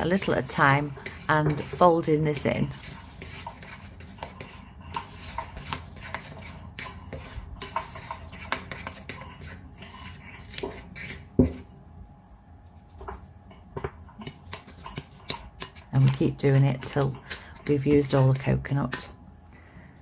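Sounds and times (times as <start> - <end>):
metal spoon scraping ceramic bowl: 0.0 - 11.6, 13.5 - 19.2.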